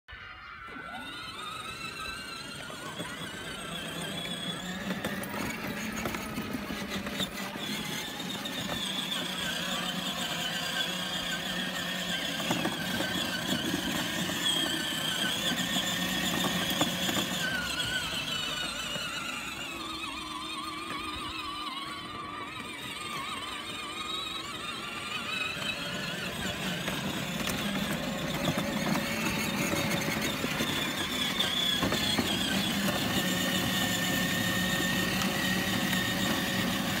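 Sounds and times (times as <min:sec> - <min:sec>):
toy car electric motor whining: 0:00.1 - 0:37.0.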